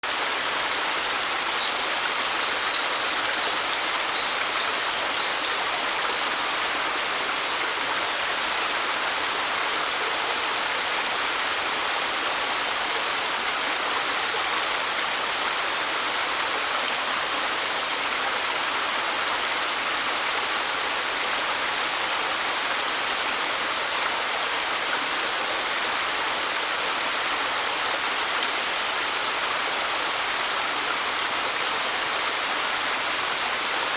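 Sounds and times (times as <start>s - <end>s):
waterfall splashing rush: 0.0s - 33.9s.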